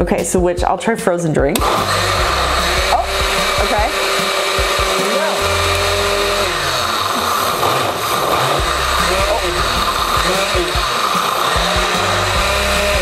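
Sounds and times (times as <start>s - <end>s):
blender motor churning: 1.6s - 13.0s.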